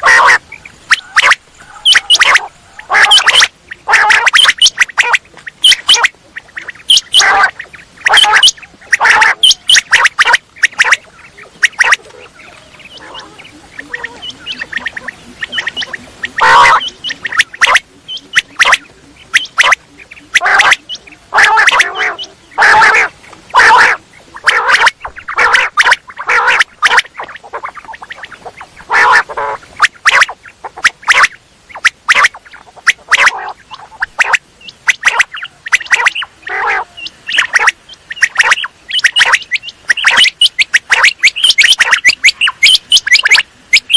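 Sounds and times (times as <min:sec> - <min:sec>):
quail calling: 0:00.0 - 0:43.9.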